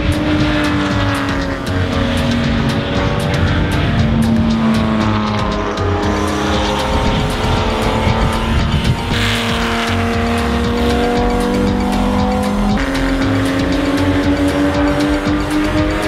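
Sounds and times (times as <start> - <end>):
held music chords: 0.0 - 16.0
steady ticking beat: 0.0 - 16.0.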